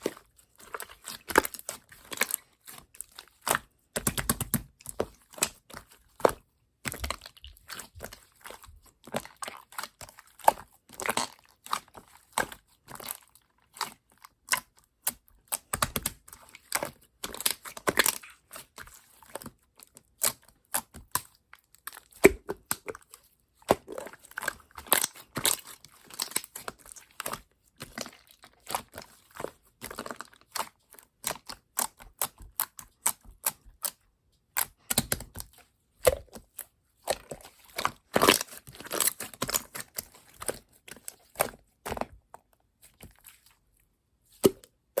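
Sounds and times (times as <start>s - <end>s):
slime squishing with sticky pops: 0.0s - 45.0s.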